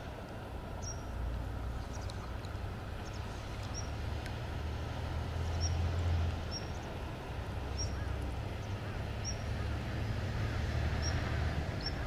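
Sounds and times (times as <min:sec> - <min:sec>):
river water rumbling: 0:00.0 - 0:12.0.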